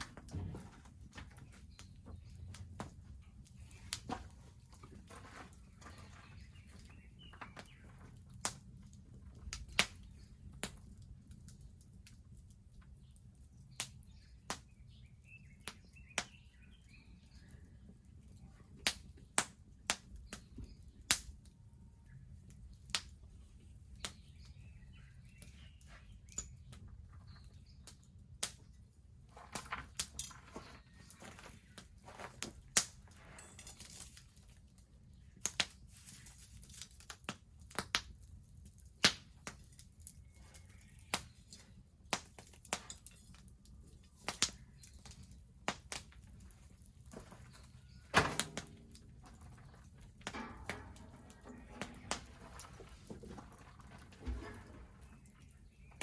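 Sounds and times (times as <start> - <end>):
wood bonfire crackling: 0.9 - 26.6, 27.6 - 56.0.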